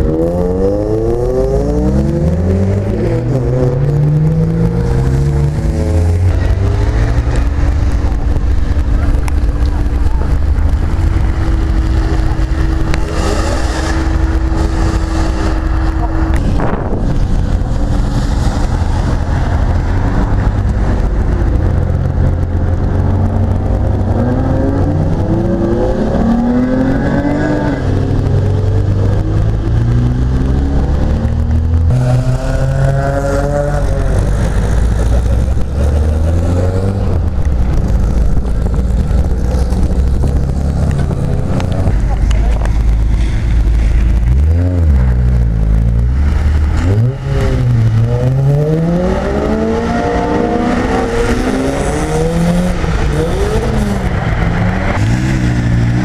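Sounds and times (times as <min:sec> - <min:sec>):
car engines revving: 0:00.0 - 0:56.0
constant low rumble: 0:00.0 - 0:56.0.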